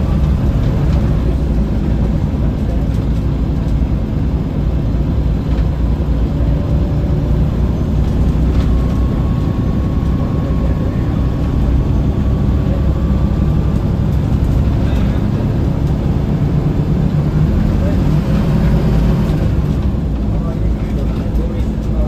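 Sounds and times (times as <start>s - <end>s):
bus diesel engine running: 0.0s - 22.0s
road noise: 0.0s - 22.0s.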